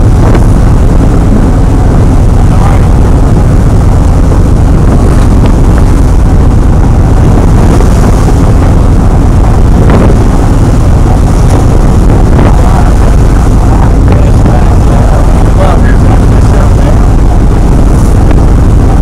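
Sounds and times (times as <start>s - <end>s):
motorboat engine running: 0.0s - 19.0s
rush of boat wake: 0.0s - 19.0s
wind buffeting microphone: 0.0s - 19.0s.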